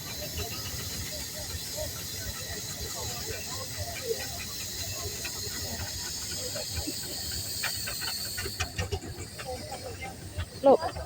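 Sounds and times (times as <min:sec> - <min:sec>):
faint crowd chatter: 0:00.0 - 0:11.0
steam hissing: 0:00.0 - 0:11.0.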